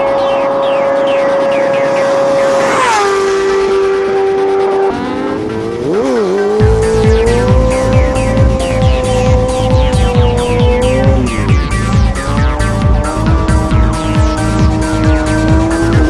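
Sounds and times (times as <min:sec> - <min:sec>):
electronic music with heavy beat: 0:00.0 - 0:16.0
sport bike engine revving: 0:00.0 - 0:16.0.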